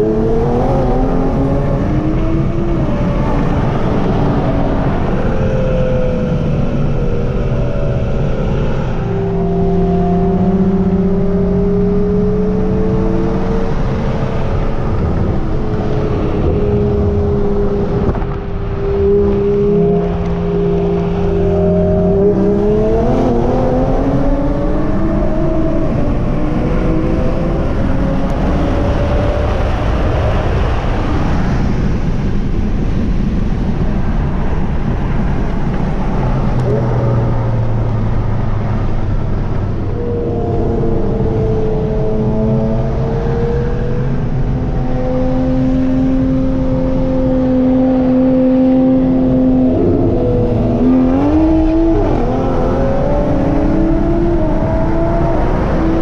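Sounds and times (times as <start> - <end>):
car engine accelerating: 0.0 - 56.0
road noise: 0.0 - 56.0
wind noise: 0.0 - 56.0.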